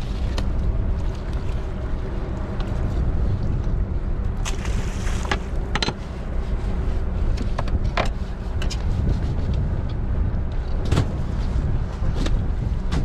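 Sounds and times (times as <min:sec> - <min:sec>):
boat engine rumble: 0:00.0 - 0:13.0
wind: 0:00.0 - 0:13.0.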